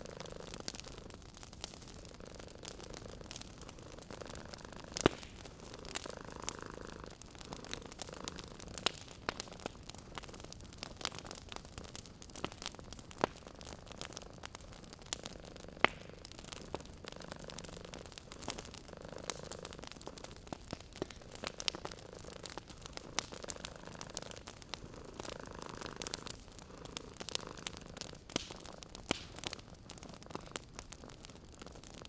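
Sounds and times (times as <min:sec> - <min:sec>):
cat purring: 0:00.0 - 0:32.0
wood fire crackling and popping: 0:00.0 - 0:32.0.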